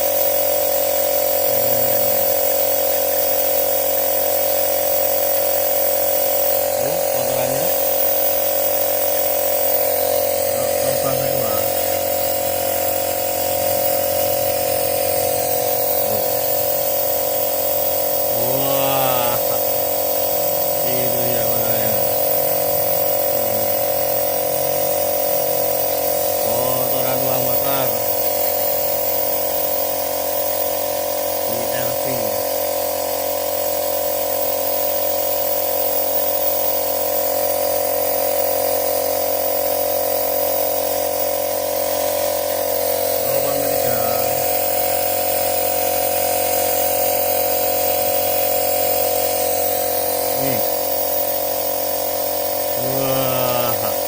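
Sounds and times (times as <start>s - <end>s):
small motor whining: 0.0s - 54.0s.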